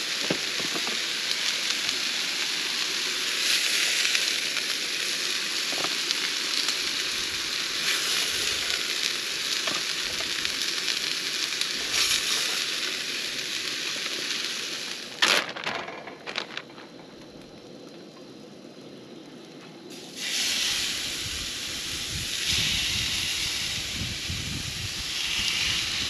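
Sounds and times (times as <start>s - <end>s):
chicken sizzling in oil: 0.0s - 15.2s, 19.9s - 26.0s.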